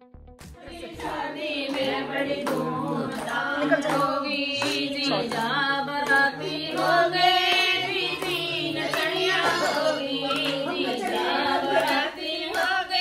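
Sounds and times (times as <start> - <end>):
woman singing: 0.6 - 13.0.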